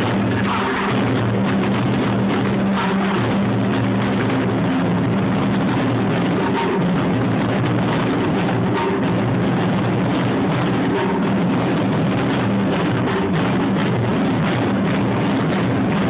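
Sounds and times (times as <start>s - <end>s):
taiko drum ensemble: 0.0s - 16.0s.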